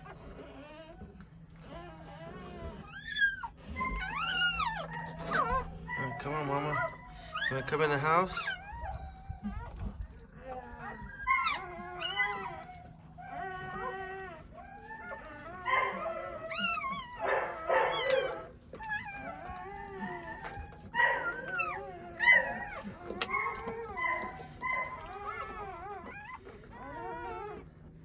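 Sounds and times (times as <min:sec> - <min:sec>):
puppies squealing and whimpering: 0:00.0 - 0:28.0.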